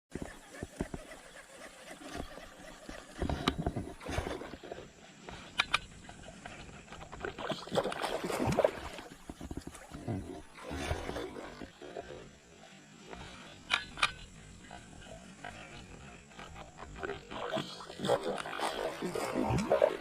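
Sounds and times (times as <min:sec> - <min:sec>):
water sloshing and splashing: 0:00.2 - 0:20.0.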